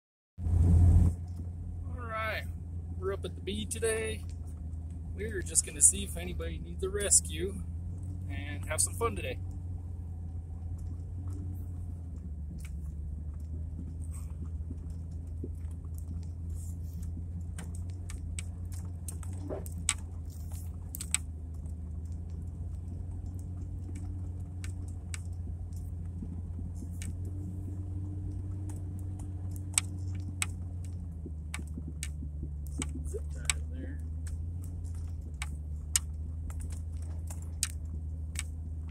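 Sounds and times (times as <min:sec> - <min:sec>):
engine and tyres drone: 0:00.4 - 0:38.9
small clicks and rattles: 0:03.7 - 0:06.3, 0:07.0 - 0:38.9.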